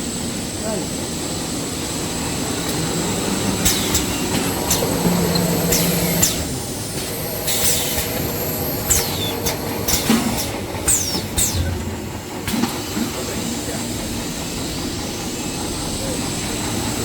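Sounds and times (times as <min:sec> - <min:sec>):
machinery running: 0:00.7 - 0:17.0.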